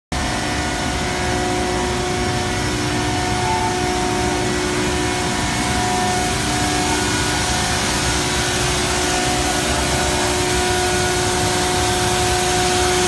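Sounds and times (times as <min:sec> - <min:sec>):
machinery drone: 0:00.1 - 0:13.0
constant tones: 0:00.2 - 0:13.0.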